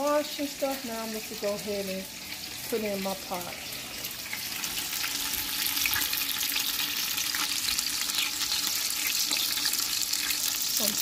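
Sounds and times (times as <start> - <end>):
bacon and onions sizzling: 0.0 - 11.0.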